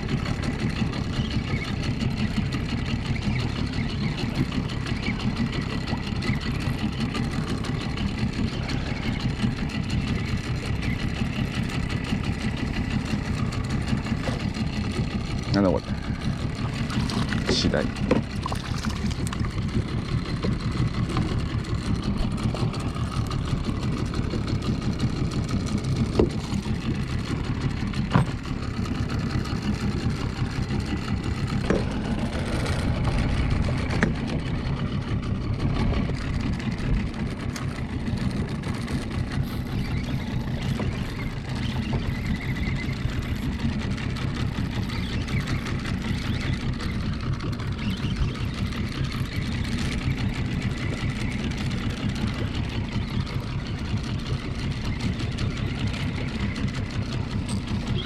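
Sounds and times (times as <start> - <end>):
small outboard motor running: 0.0 - 58.0.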